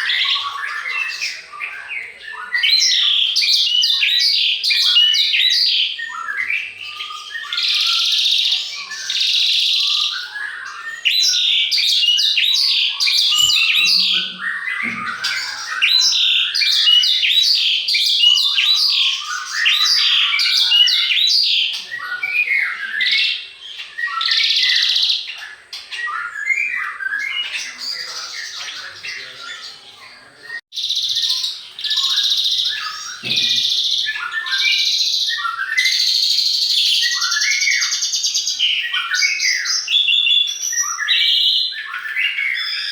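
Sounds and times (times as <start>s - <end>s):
harsh scratchy bird calls: 0.0s - 42.9s
songbirds singing: 0.0s - 42.9s.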